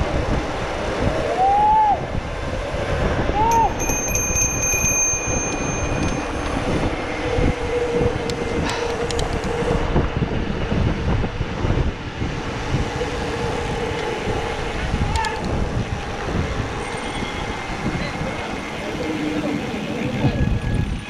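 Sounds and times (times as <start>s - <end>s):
bike rumble on asphalt: 0.0s - 21.0s
rolling tyres hum: 0.0s - 21.0s
bike rattling: 2.6s - 21.0s.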